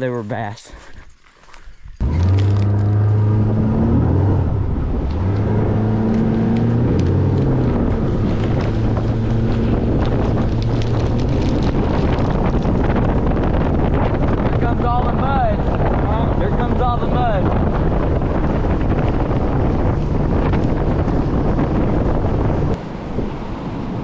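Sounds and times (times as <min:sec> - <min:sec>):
wind on microphone: 0:01.7 - 0:24.0
boat motor humming: 0:02.0 - 0:24.0.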